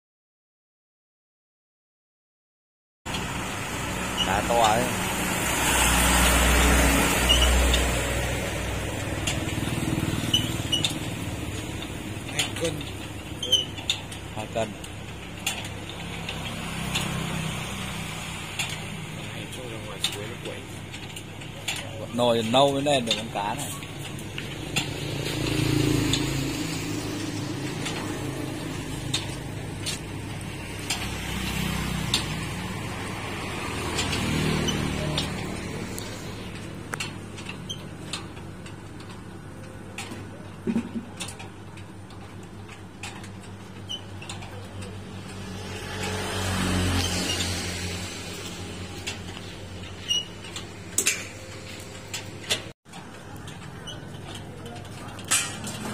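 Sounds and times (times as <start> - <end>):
vehicle engine rumbling: 3.1 - 55.9.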